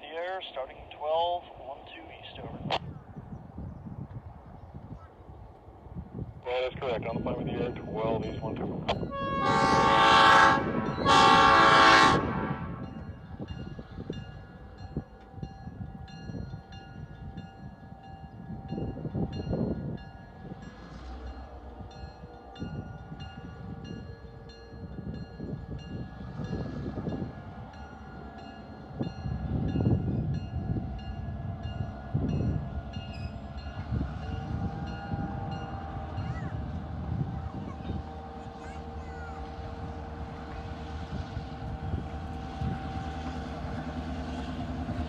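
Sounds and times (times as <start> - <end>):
diesel locomotive rumble: 0.0 - 45.0.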